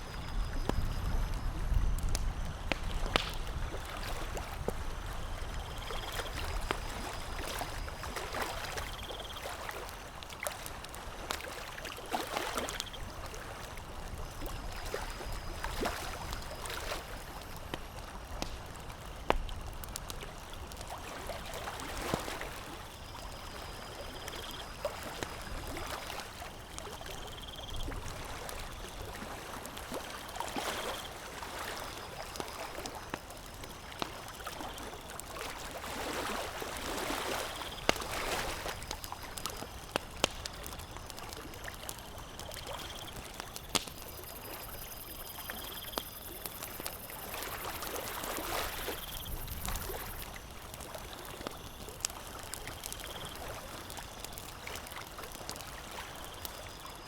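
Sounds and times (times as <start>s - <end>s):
campfire crackling and popping: 0.1s - 57.0s.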